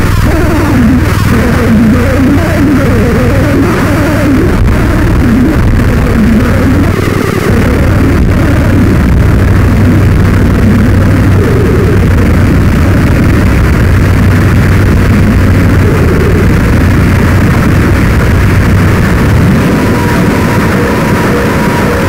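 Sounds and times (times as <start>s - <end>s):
harsh electronic noise music: 0.0s - 22.0s.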